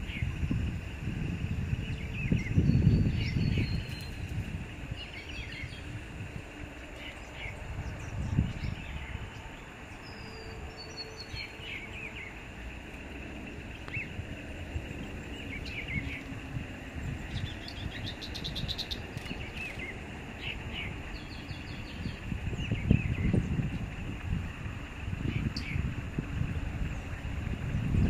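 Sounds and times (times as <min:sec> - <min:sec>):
steady high hiss: 0:00.0 - 0:28.0
wild birds calling: 0:00.0 - 0:28.0.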